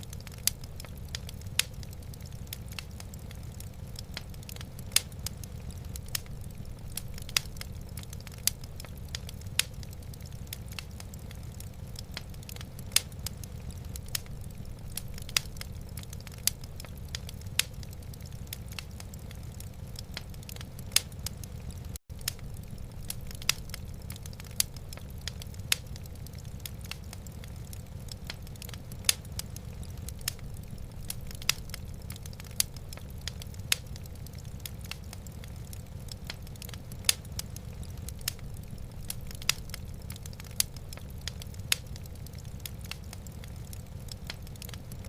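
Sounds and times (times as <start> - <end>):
fire crackling and popping: 0.0 - 45.0
low fire rumble: 0.0 - 45.0.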